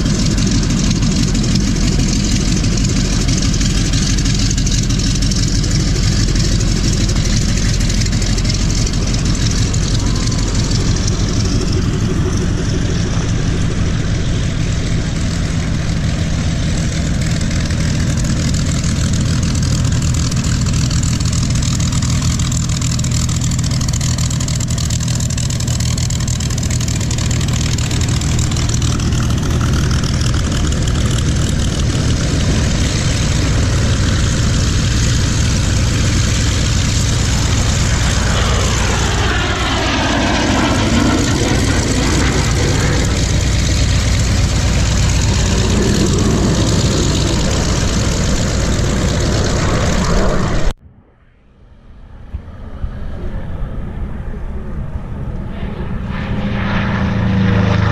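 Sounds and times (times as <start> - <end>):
propeller engines rumbling: 0.0 - 57.9.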